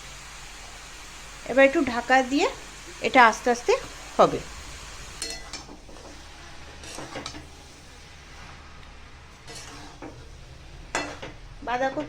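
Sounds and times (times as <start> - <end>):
curry frying softly: 0.0 - 12.0.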